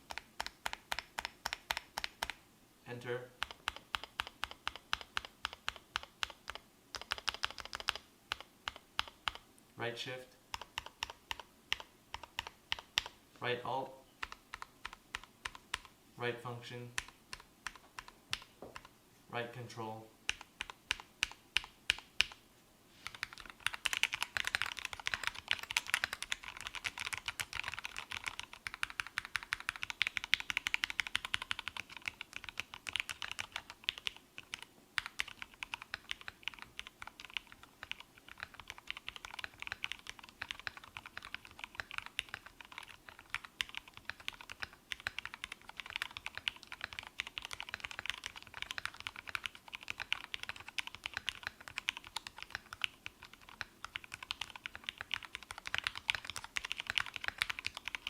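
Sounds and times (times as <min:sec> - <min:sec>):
mechanical keyboard typing: 0:00.0 - 0:02.4, 0:03.4 - 0:09.4, 0:10.5 - 0:13.2, 0:14.2 - 0:15.9, 0:17.0 - 0:18.9, 0:20.3 - 0:22.4, 0:23.0 - 0:58.0.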